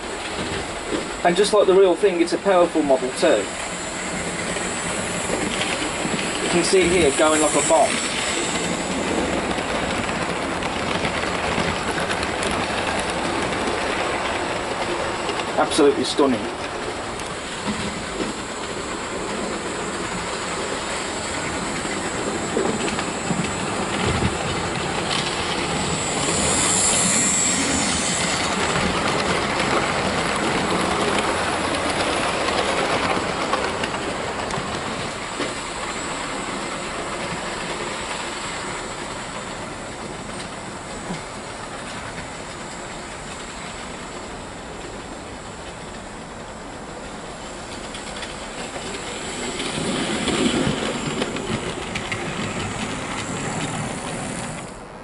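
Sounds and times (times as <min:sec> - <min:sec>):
model train wheels clicking on rails: 0:00.0 - 0:54.9.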